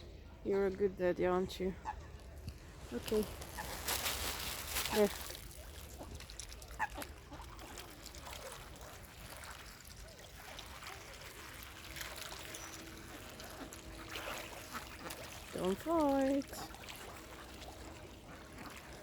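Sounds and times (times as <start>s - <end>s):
birds splashing in water: 1.8s - 19.0s.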